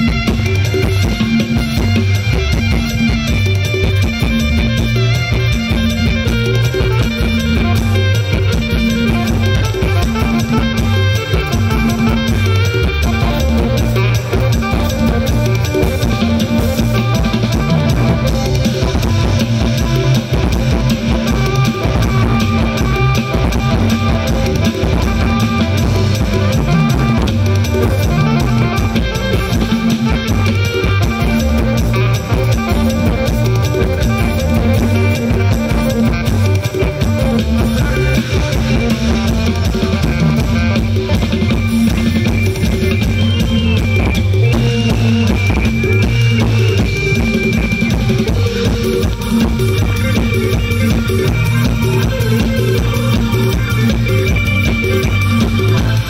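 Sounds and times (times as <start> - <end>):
guitar: 0.0 - 56.0
heavy bass: 0.0 - 56.0
keyboard: 0.0 - 56.0.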